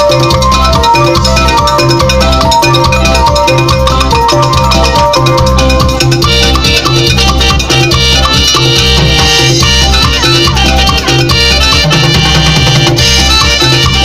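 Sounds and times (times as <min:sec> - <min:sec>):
dance band playing cumbia: 0:00.0 - 0:14.0.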